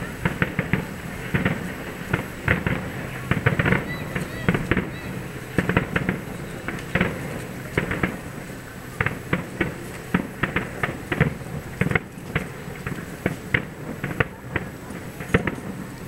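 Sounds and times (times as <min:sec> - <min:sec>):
distant fireworks bursting: 0:00.0 - 0:16.0.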